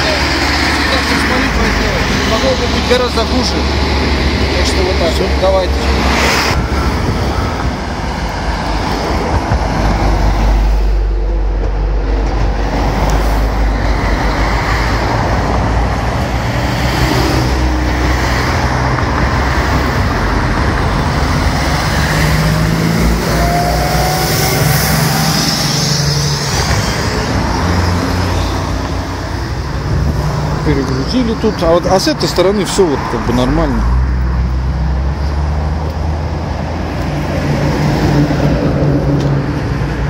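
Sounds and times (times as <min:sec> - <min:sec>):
cars and trucks driving past: 0:00.0 - 0:40.0.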